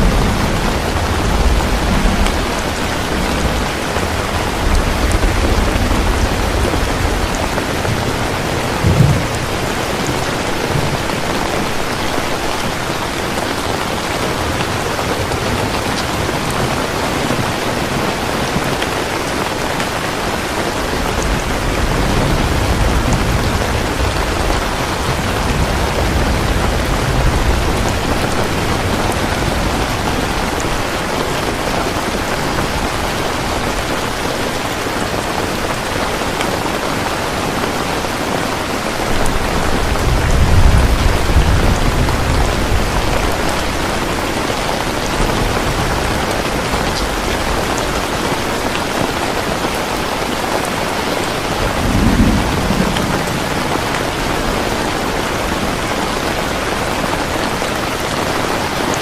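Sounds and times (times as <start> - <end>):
thunder rumbling: 0.0 - 58.8
heavy rain falling: 0.0 - 59.0.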